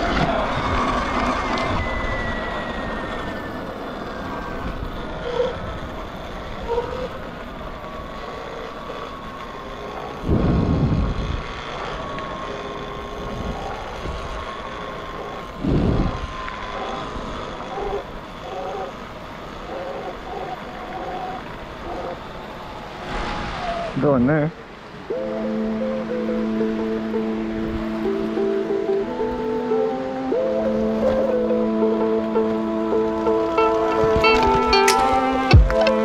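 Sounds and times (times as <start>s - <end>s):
electric motor whine: 0.0s - 23.9s, 24.8s - 36.0s
tyre and wind noise: 0.0s - 25.3s, 26.8s - 36.0s.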